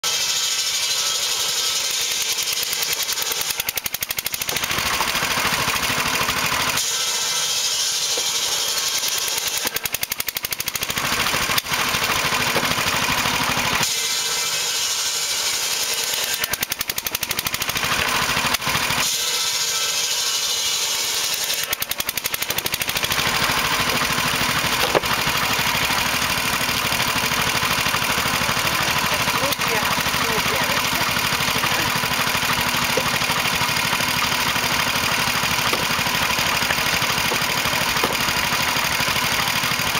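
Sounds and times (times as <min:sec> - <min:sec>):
circular saw cutting wood: 0:00.0 - 0:39.9
engine chugging: 0:00.0 - 0:39.9.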